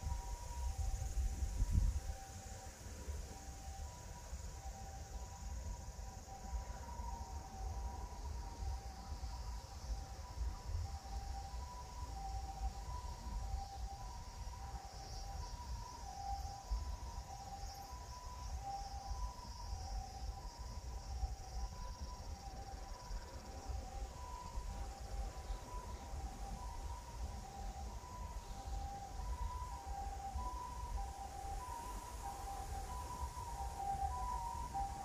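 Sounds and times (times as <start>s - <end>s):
two-tone siren: 0.0s - 35.0s
wind rumble on microphone: 0.0s - 35.0s.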